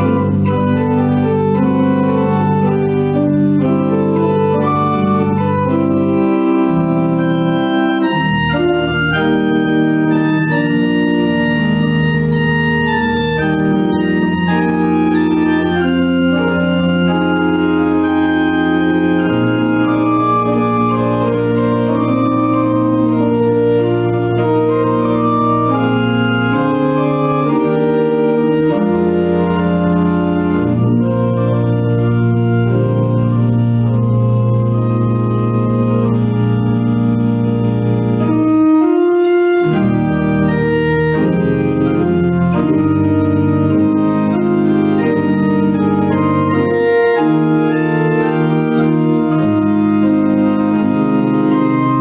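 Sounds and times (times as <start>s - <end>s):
organ playing held chords: 0.0s - 52.0s.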